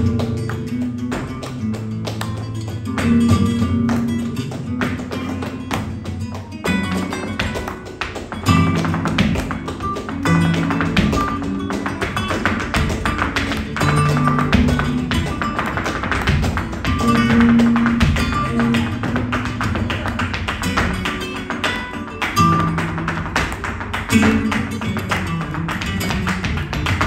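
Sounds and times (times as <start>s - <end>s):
flamenco guitar: 0.0s - 27.0s
hand clapping: 0.0s - 27.0s
rapid dance footwork on stage: 0.0s - 27.0s.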